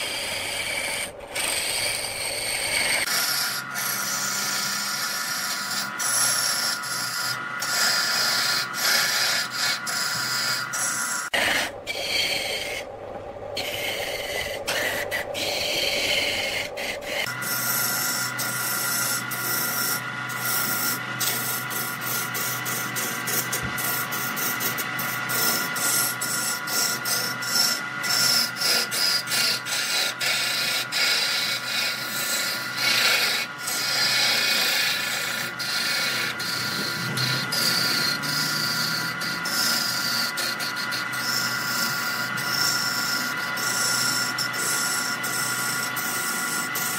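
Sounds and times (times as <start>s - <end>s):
gouge cutting spinning wood: 0.0s - 46.9s
lathe motor hum: 0.0s - 46.9s.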